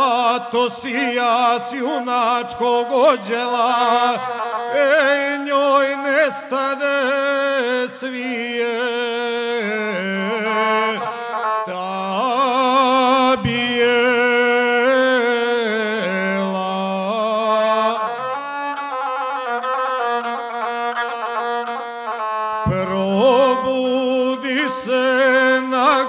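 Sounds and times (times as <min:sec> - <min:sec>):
man singing: 0:00.0 - 0:18.8, 0:22.6 - 0:26.0
bowed single-string fiddle: 0:00.0 - 0:26.0.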